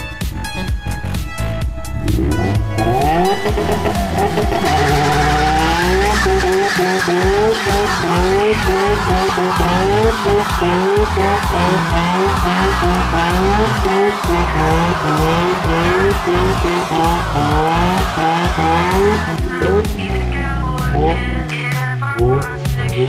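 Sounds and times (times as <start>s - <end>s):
rotary engine revving hard: 1.8s - 23.0s.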